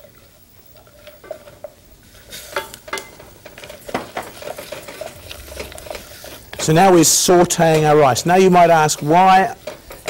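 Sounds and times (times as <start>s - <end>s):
wooden spoon stirring in pan: 0.0s - 10.0s
spoon knocking and scraping pan: 1.0s - 10.0s.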